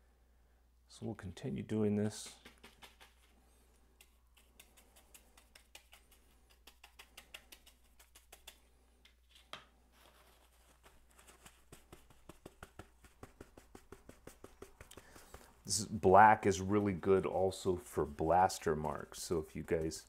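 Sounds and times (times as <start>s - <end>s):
paintbrush tapping and scratching: 1.8s - 20.0s.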